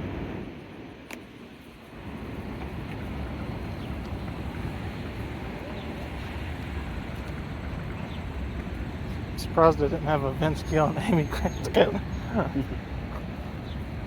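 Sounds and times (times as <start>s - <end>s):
passing traffic rumble: 0.0s - 14.0s
wind gusts on microphone: 0.0s - 14.0s.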